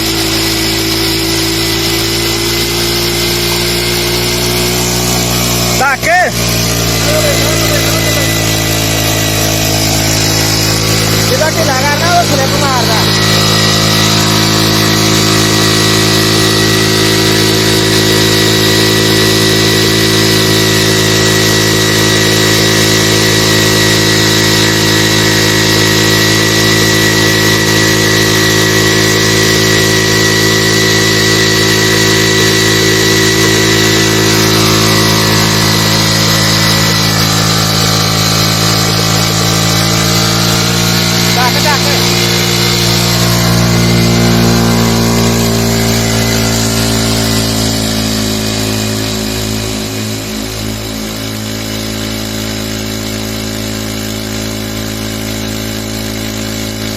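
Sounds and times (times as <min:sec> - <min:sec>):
small engine running steadily: 0:00.0 - 0:56.9.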